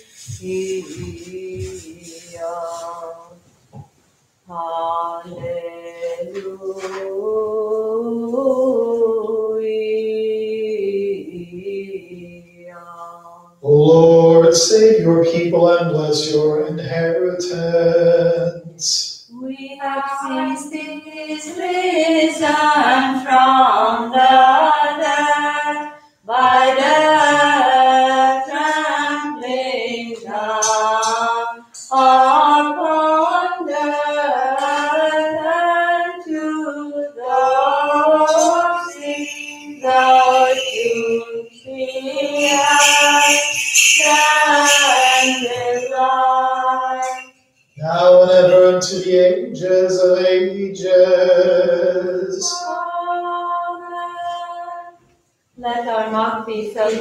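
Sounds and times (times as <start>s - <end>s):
unaccompanied liturgical chant: 0.0s - 3.9s, 4.5s - 57.0s.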